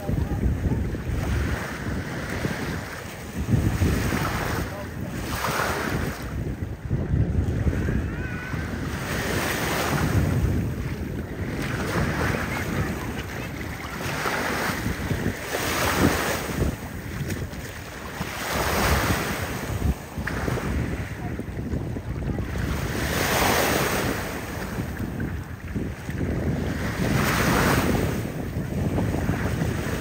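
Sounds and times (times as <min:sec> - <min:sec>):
small sea waves washing in: 0:00.0 - 0:30.0
wind buffeting microphone: 0:00.0 - 0:30.0.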